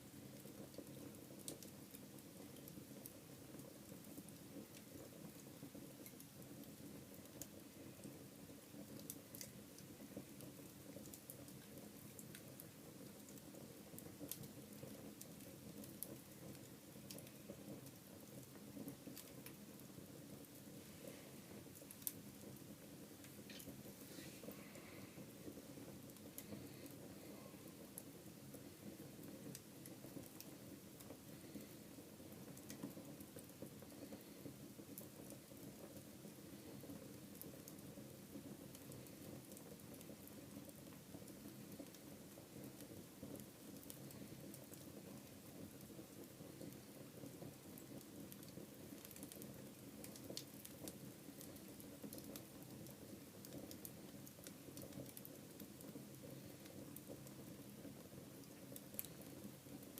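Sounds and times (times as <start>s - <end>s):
wood crackling and popping: 0.0s - 59.9s
flames rushing: 0.2s - 59.9s.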